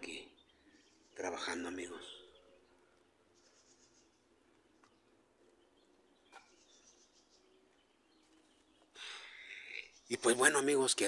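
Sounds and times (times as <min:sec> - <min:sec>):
faint high bird chirps: 0:00.0 - 0:10.8.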